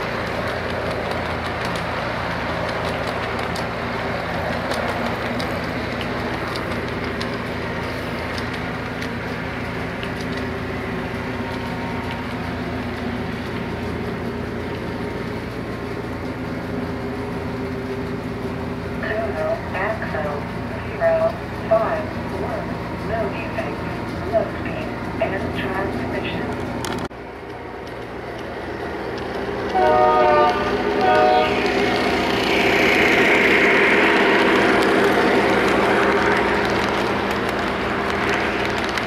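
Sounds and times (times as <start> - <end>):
light track clicks: 0.0 - 39.0
toy train wheels rumbling: 0.0 - 39.0.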